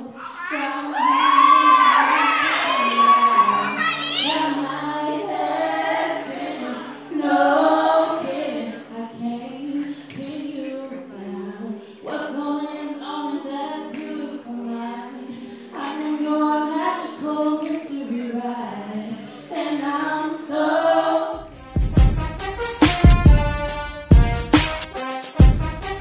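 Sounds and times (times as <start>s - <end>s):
woman singing into microphone: 0.0s - 21.5s
group of voices singing: 0.0s - 24.3s.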